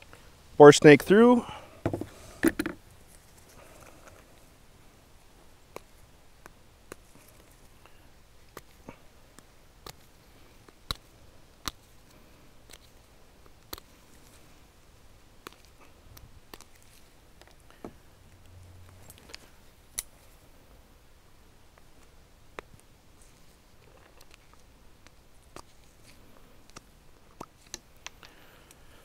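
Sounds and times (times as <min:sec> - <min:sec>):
low background hiss: 0:00.0 - 0:29.0.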